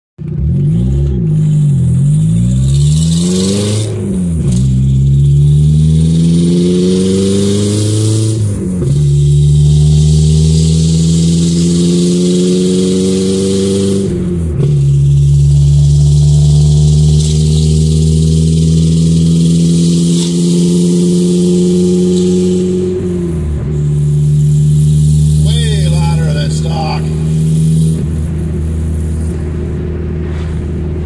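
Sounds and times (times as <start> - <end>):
loud car engine accelerating: 0.2 - 31.0.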